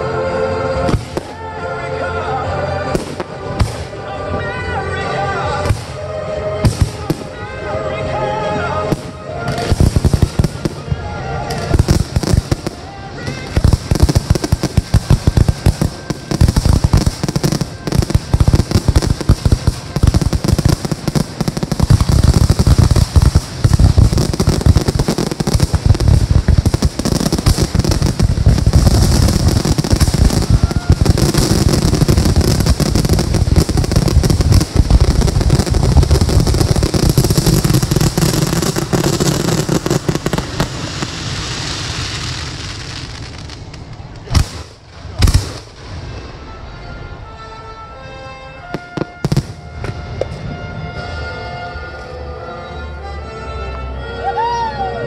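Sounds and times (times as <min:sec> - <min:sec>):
fireworks bursting: 0:00.8 - 0:01.5, 0:02.9 - 0:04.4, 0:05.5 - 0:07.6, 0:08.8 - 0:47.2, 0:48.6 - 0:51.4
fireworks crackling: 0:00.8 - 0:01.6, 0:02.8 - 0:47.5, 0:48.5 - 0:51.4.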